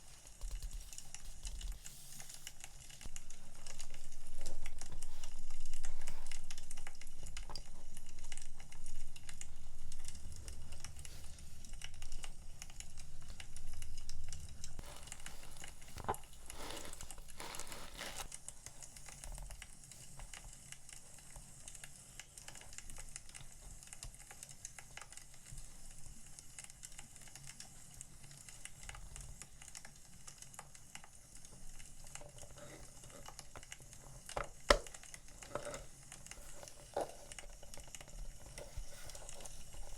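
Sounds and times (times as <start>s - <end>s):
packaging crinkling: 0.0s - 24.0s, 32.0s - 39.9s
firewood crackling: 0.0s - 39.9s.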